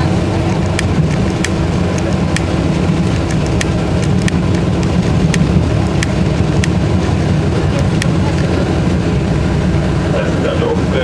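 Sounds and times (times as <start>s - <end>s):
trolleybus running rumble: 0.0s - 11.0s.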